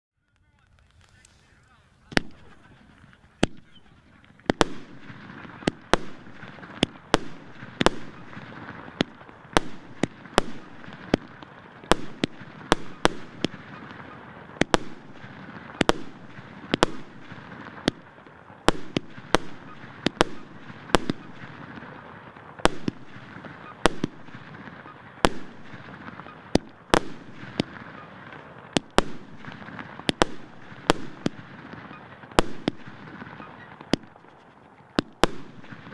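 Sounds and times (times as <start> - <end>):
firework crackle and hiss: 0.2 - 35.9
firework bangs: 0.8 - 35.9.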